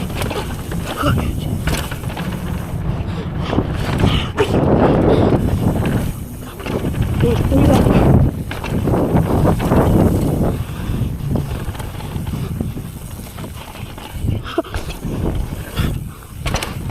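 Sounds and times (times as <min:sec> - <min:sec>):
bike rattling and knocking: 0:00.0 - 0:16.9
bike tyres rumbling on dirt: 0:00.0 - 0:16.9.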